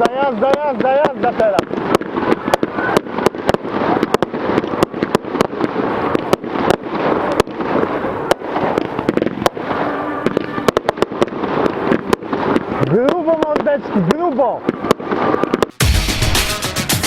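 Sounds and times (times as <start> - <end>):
continuous firework crackle: 0.0 - 15.8
fireworks bangs: 0.0 - 17.0.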